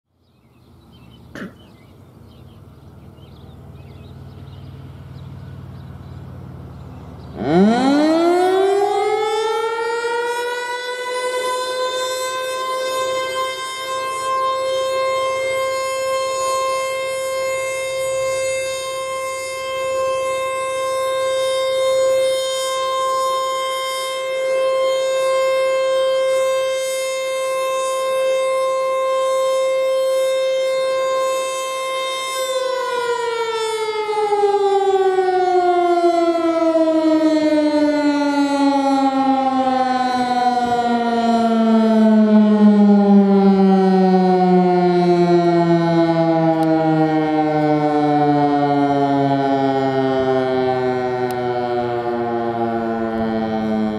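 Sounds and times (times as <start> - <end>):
outdoor warning siren: 0.1 - 53.9.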